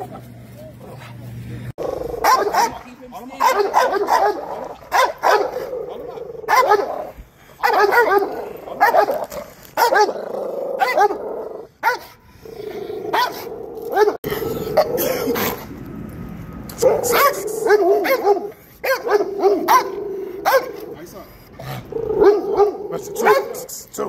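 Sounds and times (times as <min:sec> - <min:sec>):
dogs barking: 0:01.8 - 0:12.2, 0:13.0 - 0:15.7, 0:16.8 - 0:23.8.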